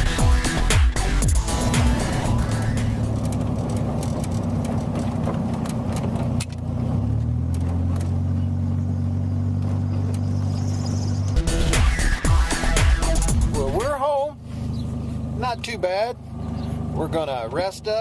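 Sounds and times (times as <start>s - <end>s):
trike engine running: 0.0s - 18.0s.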